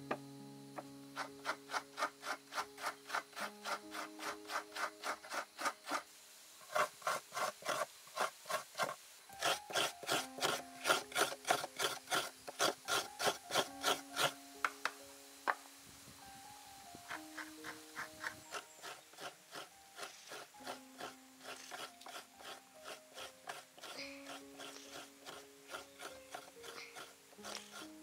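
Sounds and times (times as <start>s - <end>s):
coconut scraper rasping: 1.2s - 14.4s, 17.4s - 28.0s.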